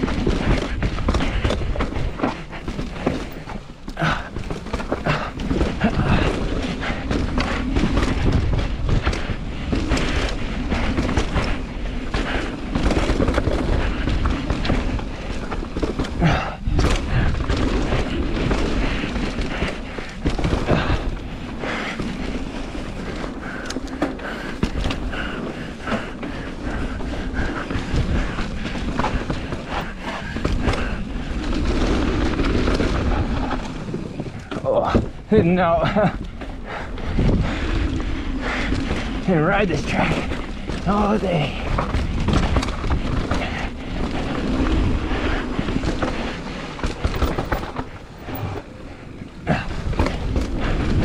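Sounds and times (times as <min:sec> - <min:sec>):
bike thuds and rattles: 0:00.0 - 0:51.0
tyres rumbling on rocky ground: 0:00.0 - 0:51.0
wind on microphone: 0:05.0 - 0:51.0.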